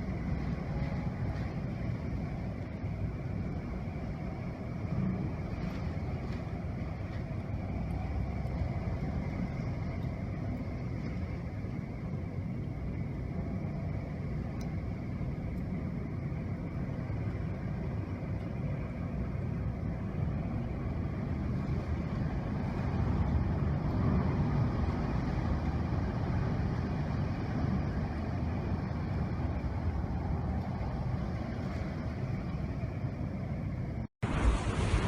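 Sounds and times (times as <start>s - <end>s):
hurricane wind and rain: 0.0s - 35.0s.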